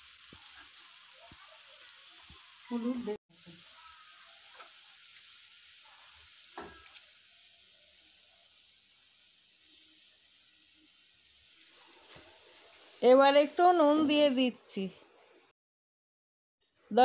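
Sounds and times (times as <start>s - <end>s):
fish sizzling in a pan: 0.0s - 14.5s.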